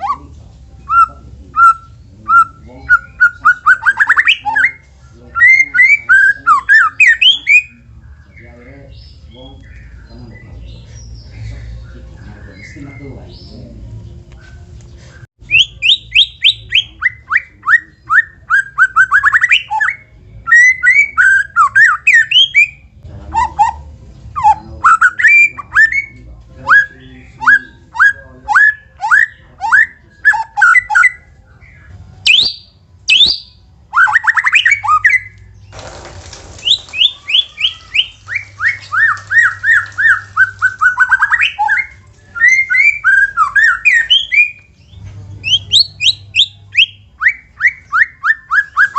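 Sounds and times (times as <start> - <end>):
bird singing rapid phrases: 0.0 - 48.9.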